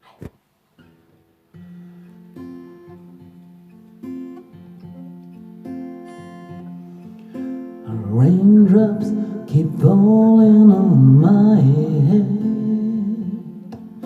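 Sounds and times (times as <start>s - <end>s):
acoustic guitar strumming chords: 0.8s - 14.0s.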